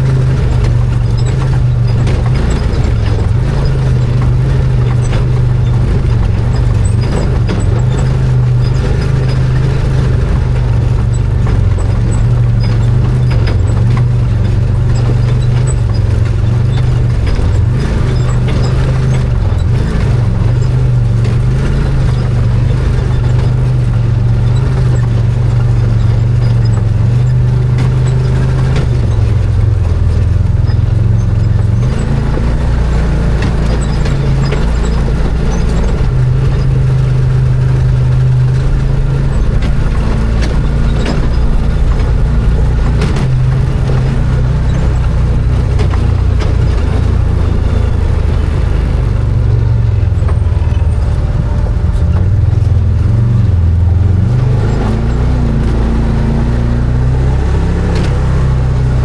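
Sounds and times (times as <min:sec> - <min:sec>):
clicks and knocks: 0:00.0 - 0:53.6
constant noise: 0:00.0 - 0:59.0
engine running: 0:00.0 - 0:59.0.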